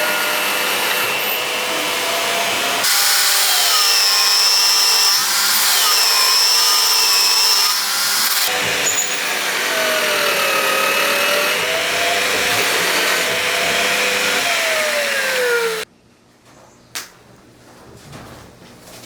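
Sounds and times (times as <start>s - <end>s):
power tool running: 0.0s - 15.9s.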